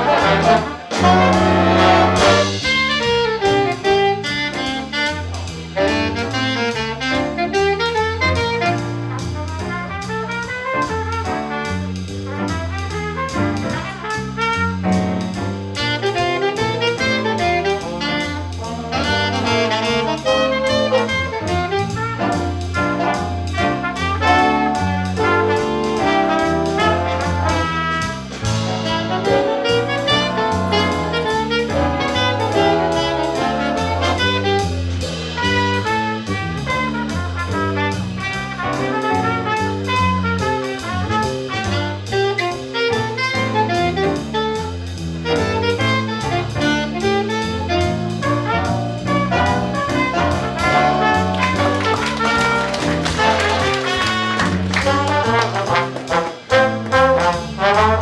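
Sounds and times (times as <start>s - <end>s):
jazz big band playing swing: 0.0s - 58.0s.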